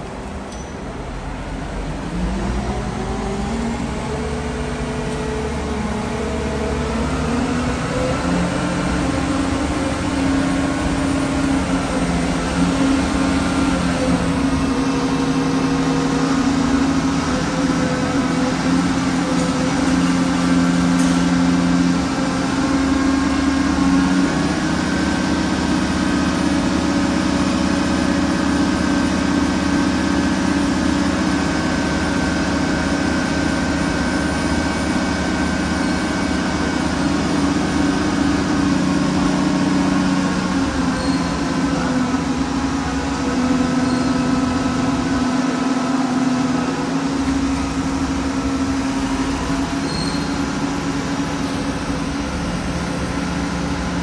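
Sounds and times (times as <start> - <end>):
heavy machine engine humming: 0.0 - 54.0.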